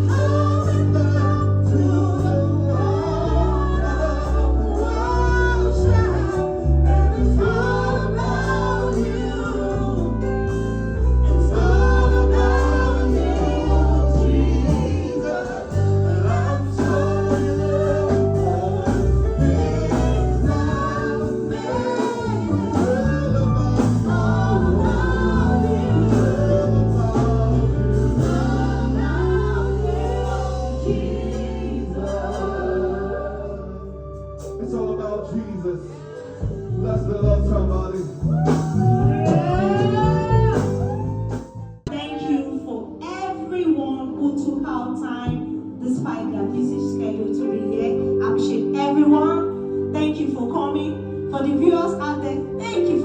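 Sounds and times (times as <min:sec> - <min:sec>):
gospel worship music: 0:00.0 - 0:53.0.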